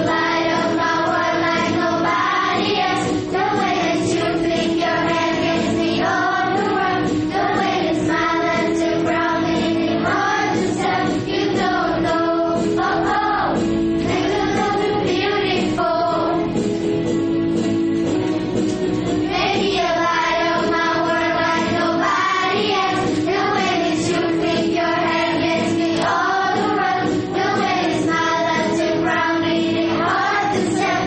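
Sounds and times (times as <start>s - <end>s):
children's choir singing: 0.0s - 16.7s, 19.2s - 31.0s
instrumental accompaniment: 0.0s - 31.0s.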